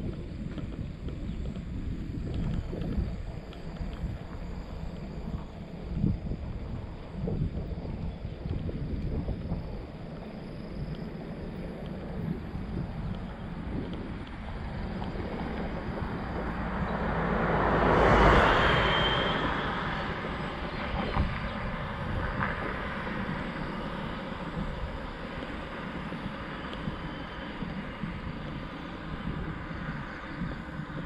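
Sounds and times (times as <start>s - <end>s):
wind rushing on microphone: 0.0s - 31.0s.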